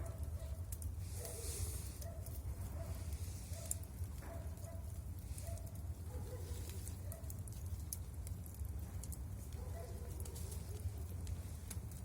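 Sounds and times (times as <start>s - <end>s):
bonfire crackling: 0.0s - 12.0s.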